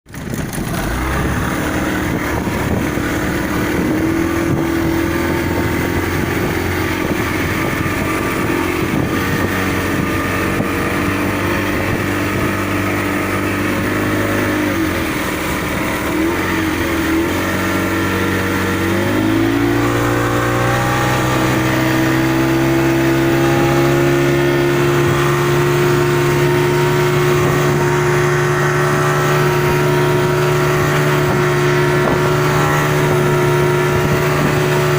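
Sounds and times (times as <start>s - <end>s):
motorboat engine running: 0.1s - 34.9s.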